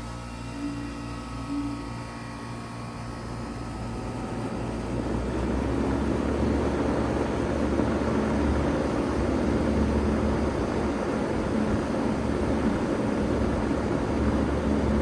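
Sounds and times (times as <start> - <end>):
low hum: 0.0 - 15.0
heat pump air rushing: 2.8 - 15.0.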